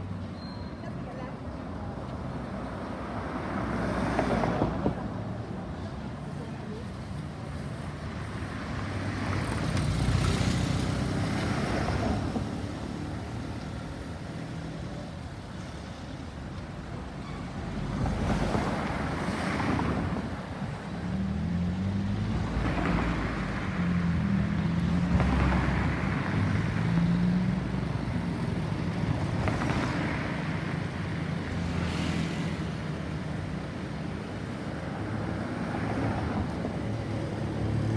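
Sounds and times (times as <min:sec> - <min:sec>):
vehicles passing: 0:00.0 - 0:37.9.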